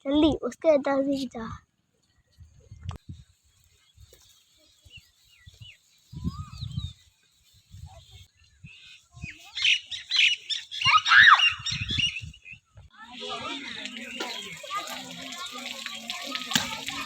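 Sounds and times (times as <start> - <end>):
birds chirping: 3.1 - 17.0.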